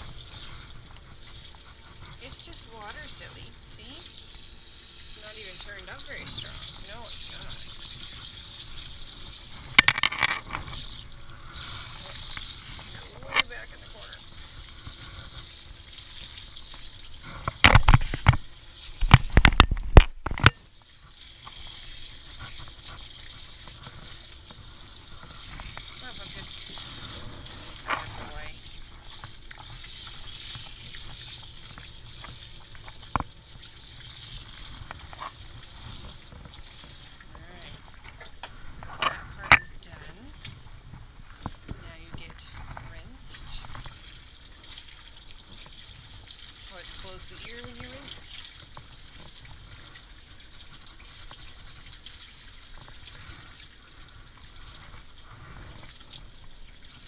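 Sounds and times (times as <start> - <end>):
water spraying through wet fur: 0.0 - 57.0.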